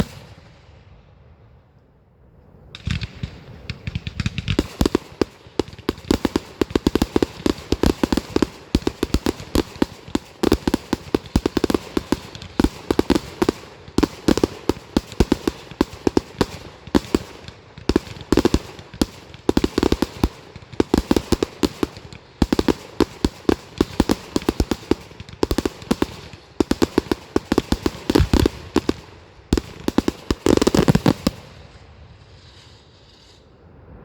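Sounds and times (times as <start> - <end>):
fireworks bangs and crackles: 0.0 - 0.9, 2.8 - 33.4.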